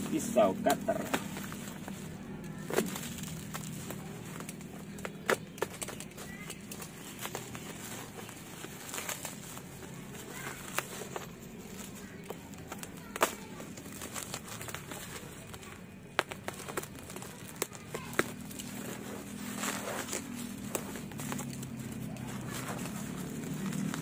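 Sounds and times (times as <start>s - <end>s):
plastic crinkling: 0.0s - 24.0s.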